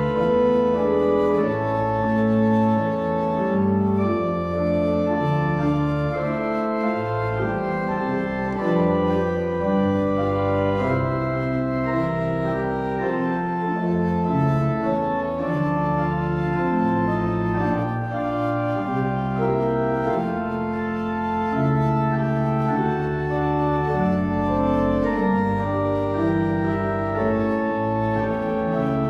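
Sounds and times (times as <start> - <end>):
organ playing chords: 0.0 - 29.0.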